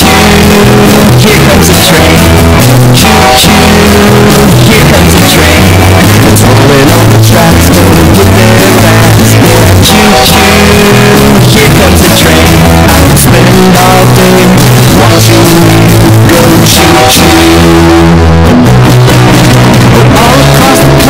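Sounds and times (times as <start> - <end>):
loud bass-boosted rock music: 0.0 - 21.0.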